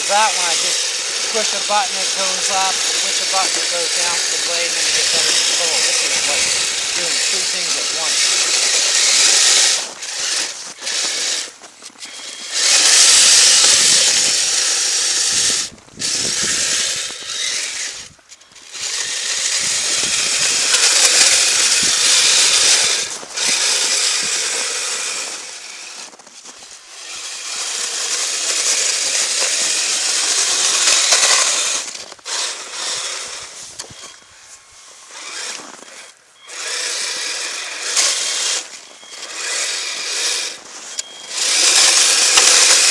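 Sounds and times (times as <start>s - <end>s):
plastic tracks rattling: 0.0s - 26.0s, 27.6s - 34.1s, 35.2s - 42.9s
toy motor and gearbox whirring: 0.0s - 42.9s.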